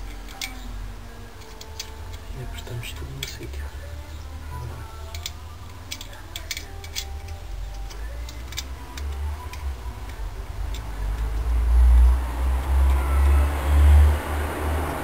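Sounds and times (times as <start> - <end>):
metallic clicks and ticks: 0.0 - 13.4.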